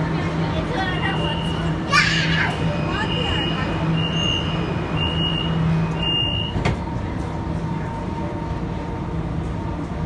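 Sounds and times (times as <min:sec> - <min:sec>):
subway doors shutting: 0:00.0 - 0:10.0
train car low hum: 0:00.0 - 0:10.0.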